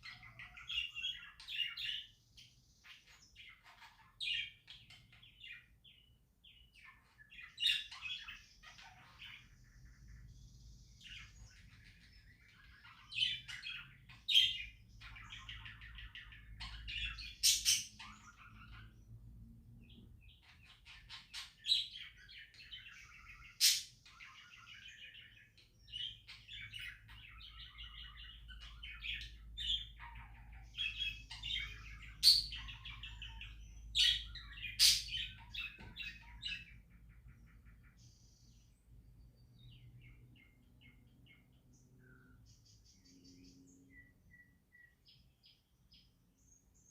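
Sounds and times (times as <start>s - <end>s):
budgerigars chirping: 0.0s - 10.4s, 11.0s - 38.6s.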